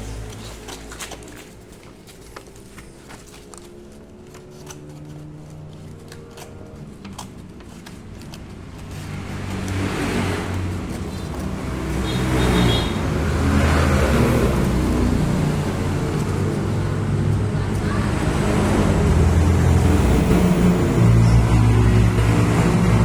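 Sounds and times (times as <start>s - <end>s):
vehicle engine running: 2.5s - 23.0s.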